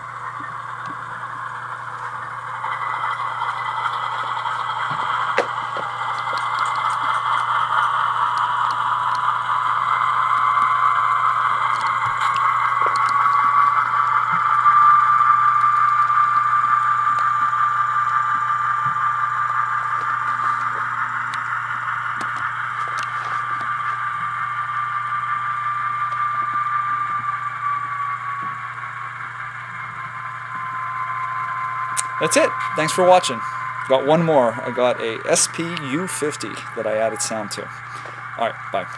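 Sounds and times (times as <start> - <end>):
low steady hum: 0.0 - 38.9
model train diesel engine sound: 0.0 - 38.9.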